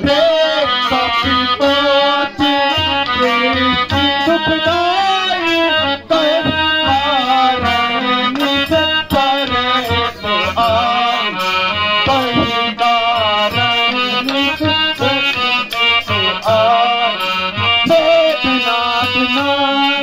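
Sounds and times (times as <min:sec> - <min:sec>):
harmonium melody: 0:00.0 - 0:20.0.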